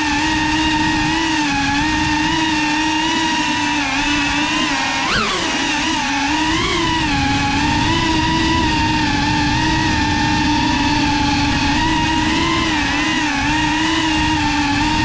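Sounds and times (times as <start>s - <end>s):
drone motors whining: 0.0s - 15.0s
propeller wash rush: 0.0s - 15.0s.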